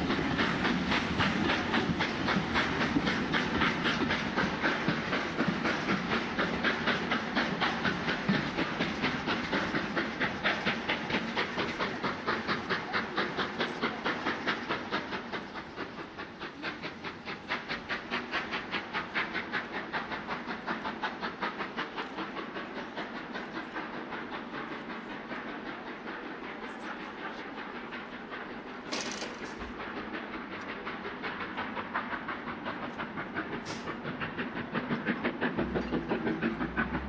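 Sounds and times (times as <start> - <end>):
steam hissing: 0.0 - 37.0
steam locomotive chuffing: 0.0 - 37.0.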